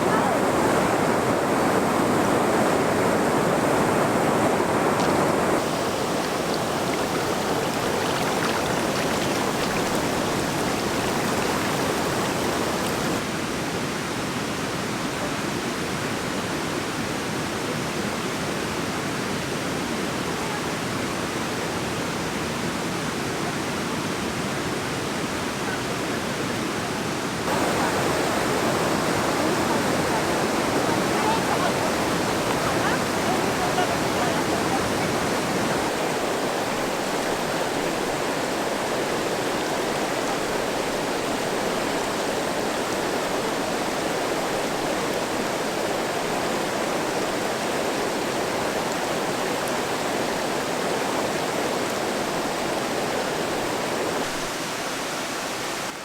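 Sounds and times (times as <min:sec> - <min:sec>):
stream water rushing: 0:00.0 - 0:13.3, 0:24.1 - 0:56.0.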